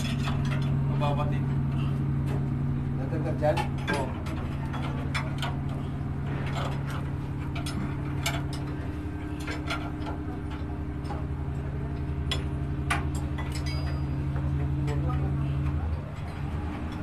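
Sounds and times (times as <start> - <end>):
machinery droning: 0.0 - 17.0.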